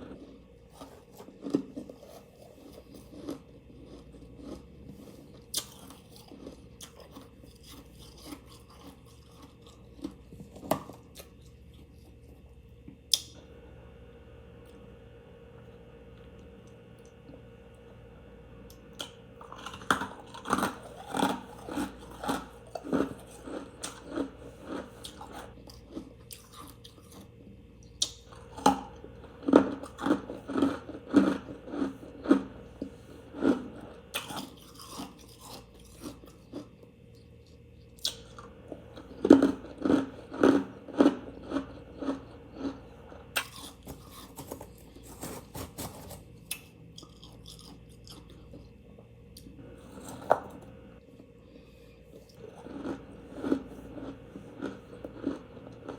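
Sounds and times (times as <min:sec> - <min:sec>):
chewing and crunching frost: 0:00.0 - 0:13.4, 0:18.7 - 0:55.9.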